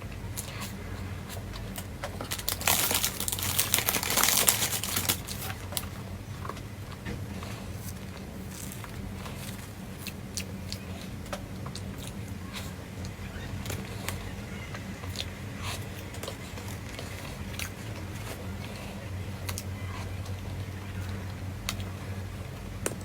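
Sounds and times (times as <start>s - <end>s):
steady low hum: 0.0s - 23.0s
crunchy chewing: 0.1s - 23.0s.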